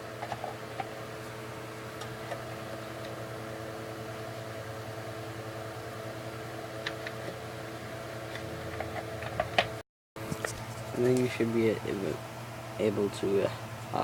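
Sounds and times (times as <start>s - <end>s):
appliance fan humming: 0.0s - 14.0s.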